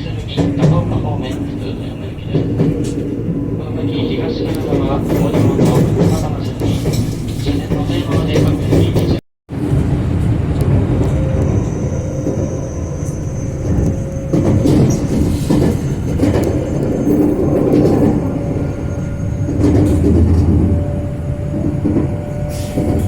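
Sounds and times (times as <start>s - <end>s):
train rushing sound: 0.0s - 23.0s
train wheels rumbling on track: 0.0s - 23.0s.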